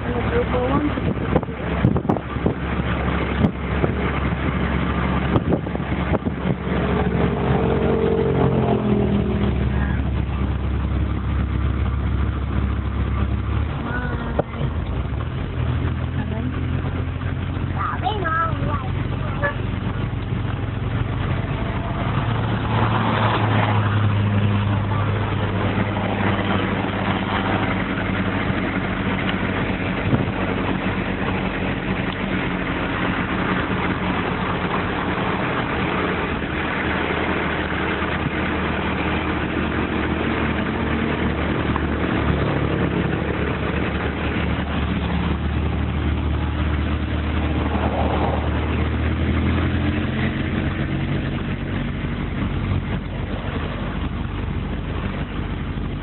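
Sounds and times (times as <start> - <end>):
road noise: 0.0 - 56.0
vehicle engine drone: 0.0 - 56.0.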